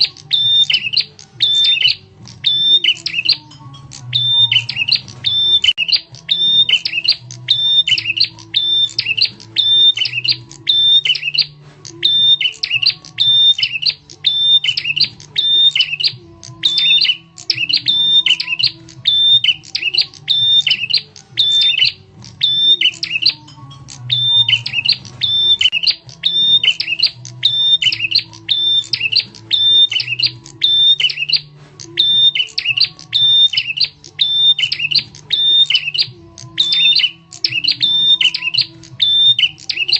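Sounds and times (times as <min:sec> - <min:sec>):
bird giving sharp chirps: 0:00.0 - 0:39.9.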